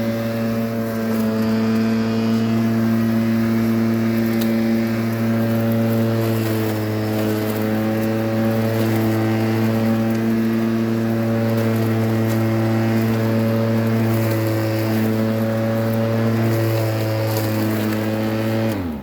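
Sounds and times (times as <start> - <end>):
electric lawn mower motor humming: 0.0 - 19.0.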